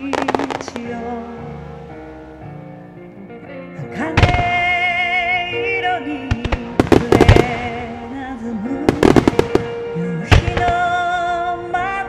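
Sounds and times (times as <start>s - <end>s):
fireworks bangs: 0.0s - 2.6s, 4.1s - 11.4s
hymn melody: 0.0s - 12.0s.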